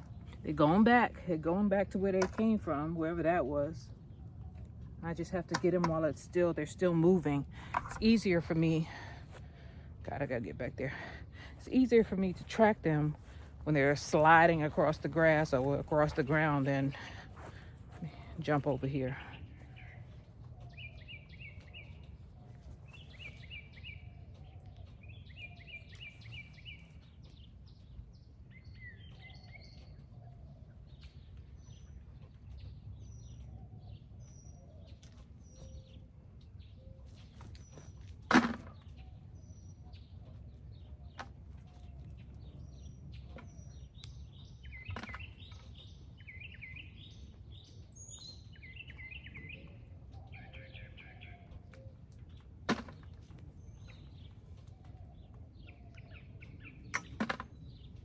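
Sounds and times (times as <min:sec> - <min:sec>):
birds chirping and singing: 0:00.0 - 0:58.0.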